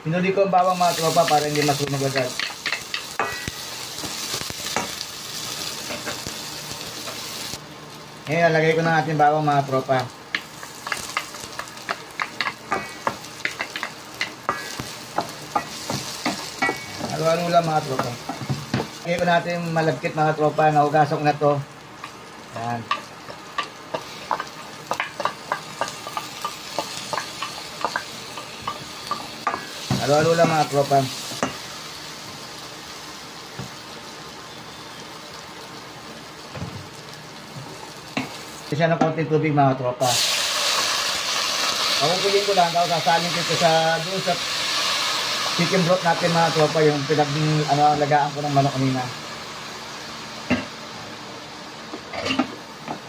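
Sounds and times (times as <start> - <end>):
onion and garlic sizzling in oil: 0.0 - 53.0.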